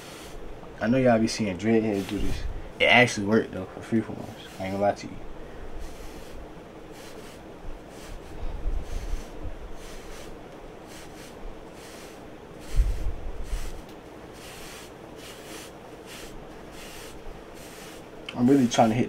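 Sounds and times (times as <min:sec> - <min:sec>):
brush scrubbing hair: 0:01.2 - 0:02.4, 0:04.0 - 0:05.0, 0:05.8 - 0:19.0.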